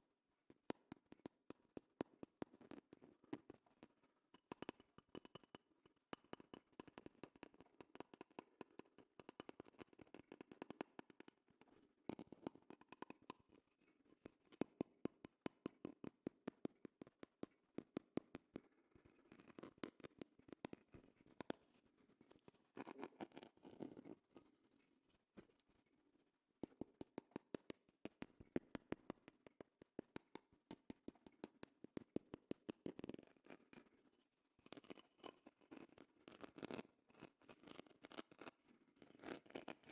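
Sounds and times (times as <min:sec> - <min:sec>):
tapping and scratching on a shell: 0:00.5 - 0:39.9.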